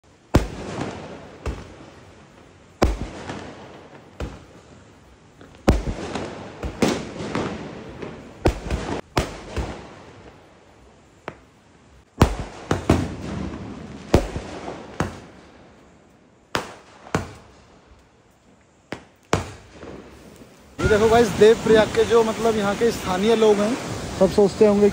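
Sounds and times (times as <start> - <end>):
fireworks bangs: 0.0 - 10.6, 11.2 - 17.9, 18.8 - 24.9
fireworks crackling: 0.0 - 24.9.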